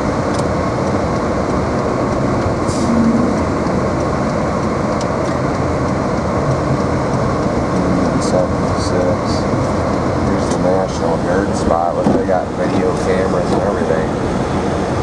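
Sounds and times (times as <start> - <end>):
heater fan blowing: 0.0 - 15.0
tyre and engine noise: 0.0 - 15.0.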